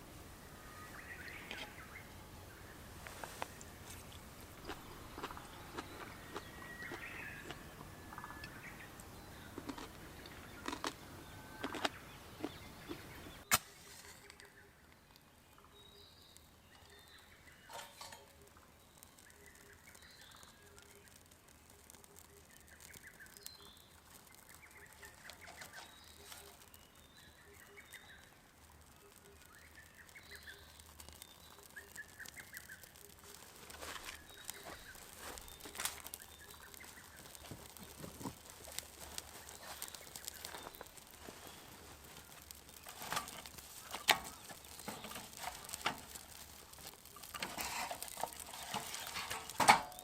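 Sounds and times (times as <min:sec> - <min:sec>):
birds chirping: 0:00.3 - 0:50.0.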